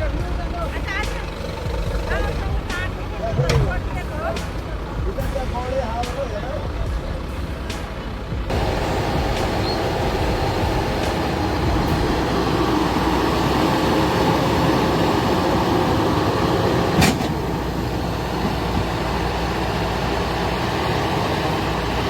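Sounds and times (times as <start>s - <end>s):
heavy machinery engine rumbling: 0.0s - 22.0s.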